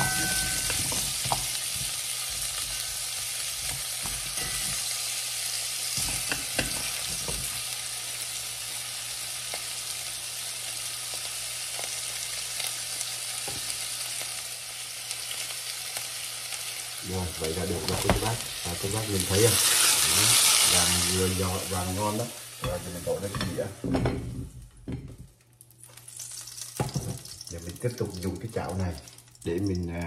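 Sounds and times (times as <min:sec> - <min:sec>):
vegetables sizzling in hot oil: 0:00.0 - 0:24.8, 0:25.6 - 0:30.0.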